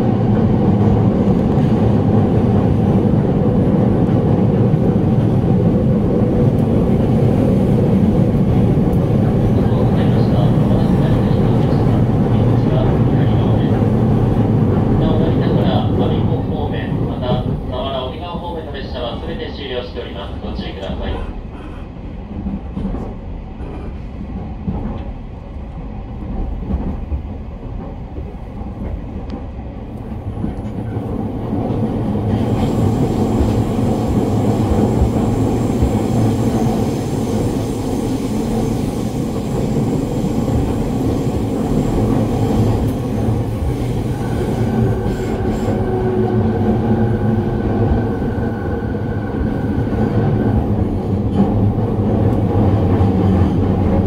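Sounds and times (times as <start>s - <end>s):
train wheel rail and motor noise: 0.0s - 54.0s.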